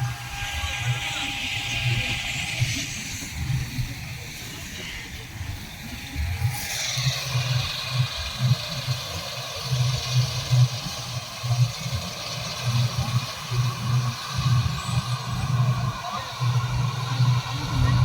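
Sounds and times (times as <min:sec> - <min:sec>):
engine running with low throb: 0:00.0 - 0:18.0.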